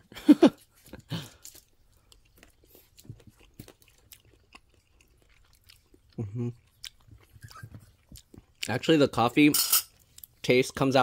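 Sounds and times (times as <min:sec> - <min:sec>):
soft chewing: 0:00.4 - 0:09.0, 0:09.9 - 0:10.5.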